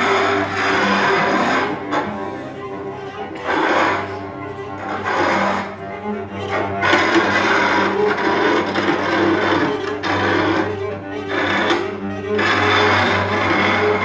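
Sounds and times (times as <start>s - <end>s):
cello bowed hard: 0.0s - 14.0s.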